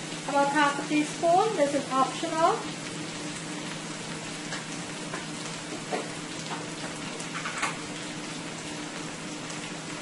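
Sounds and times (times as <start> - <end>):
potatoes sizzling in oil: 0.0 - 10.0.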